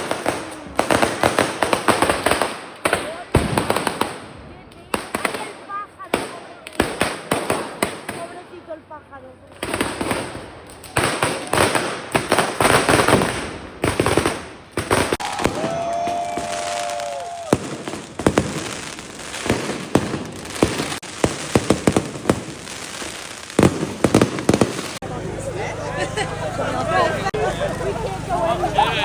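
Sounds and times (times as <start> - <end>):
firecrackers crackling and banging: 0.0 - 29.0.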